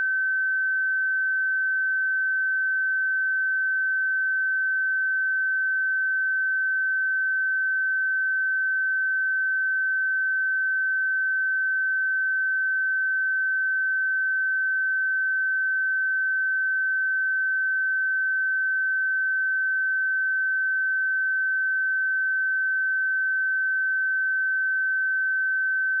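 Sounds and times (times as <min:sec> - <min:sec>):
sine-wave test tone: 0:00.0 - 0:26.0.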